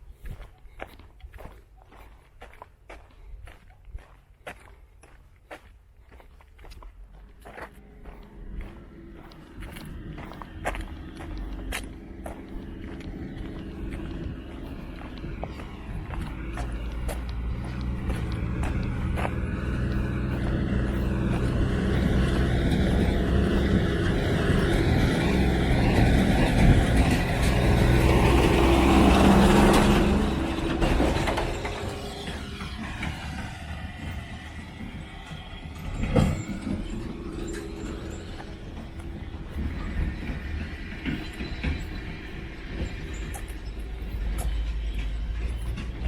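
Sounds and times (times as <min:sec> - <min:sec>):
vehicle driving past: 0:07.1 - 0:46.0.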